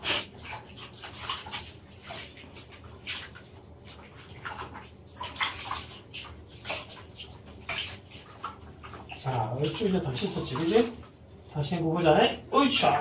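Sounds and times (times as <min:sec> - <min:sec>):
water splashing in a plastic basin: 0:00.0 - 0:13.0.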